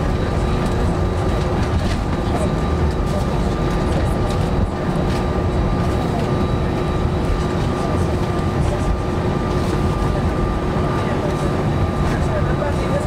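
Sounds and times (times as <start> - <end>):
engine whine: 0.0 - 13.0.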